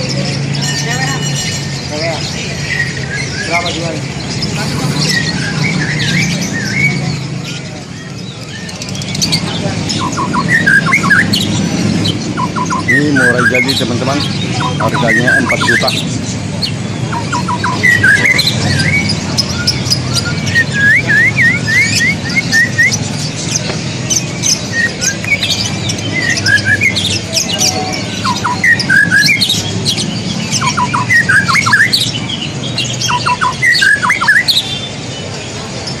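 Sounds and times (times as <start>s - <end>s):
songbird whistling and chirping: 0.0s - 34.9s
low background murmur: 0.0s - 36.0s.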